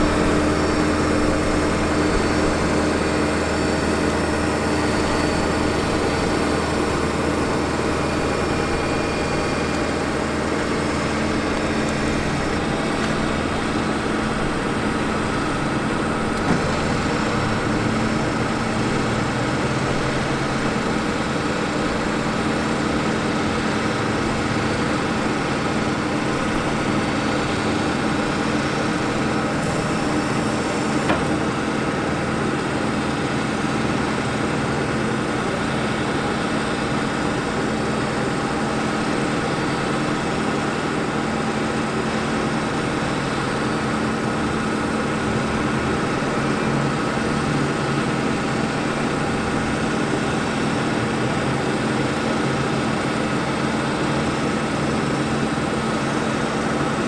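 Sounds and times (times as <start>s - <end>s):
diesel engine running: 0.0s - 57.0s
hydraulic whine: 0.0s - 57.0s.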